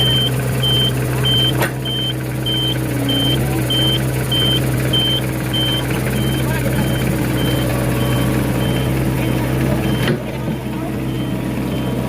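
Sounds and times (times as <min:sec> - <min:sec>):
diesel engine running: 0:00.0 - 0:12.0
warning beeper short beeps: 0:00.0 - 0:12.0.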